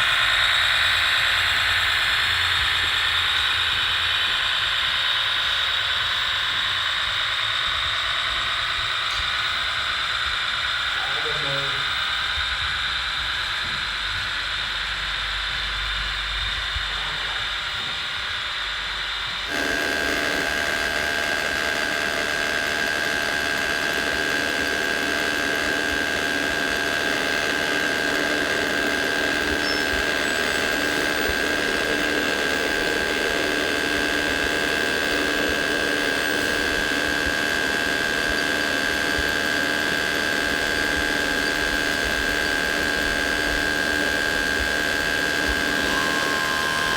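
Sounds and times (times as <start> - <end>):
electric motors whining: 0.0 - 46.9.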